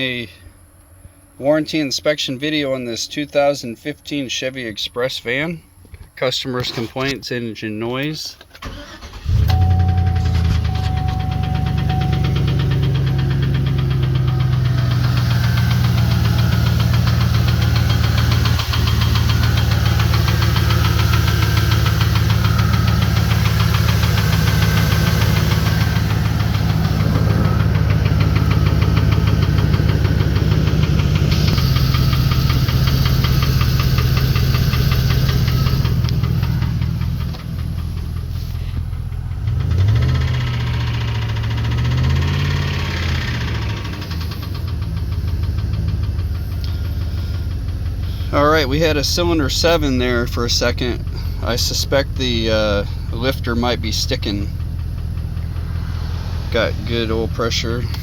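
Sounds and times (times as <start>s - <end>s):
van engine knocking: 9.6s - 58.0s.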